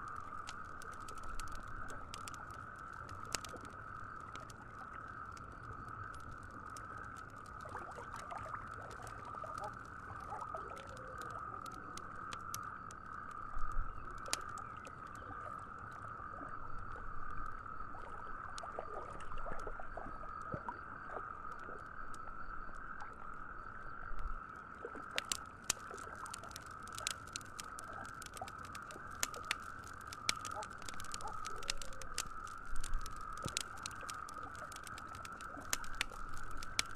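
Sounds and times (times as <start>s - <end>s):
campfire crackling and popping: 0.0s - 23.2s, 24.4s - 36.9s.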